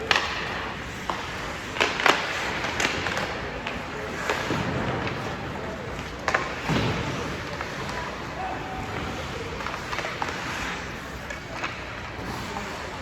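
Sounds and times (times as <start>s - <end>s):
steady background din: 0.0s - 13.0s.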